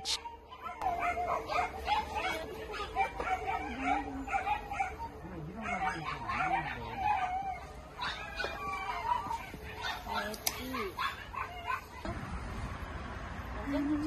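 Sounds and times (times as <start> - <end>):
dogs whining: 0.0 - 12.2.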